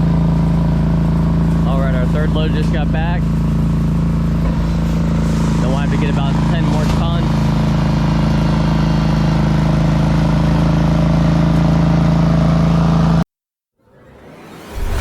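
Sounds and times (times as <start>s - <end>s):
diesel engine running steadily: 0.0s - 13.2s.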